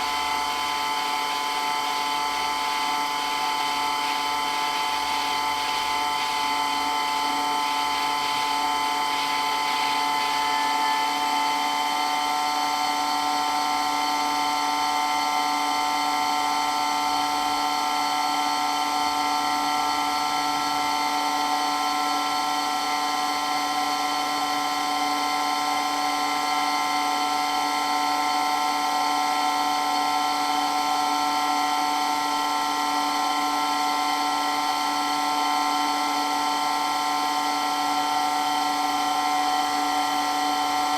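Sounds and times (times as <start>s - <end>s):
water pump humming and whining: 0.0s - 40.9s.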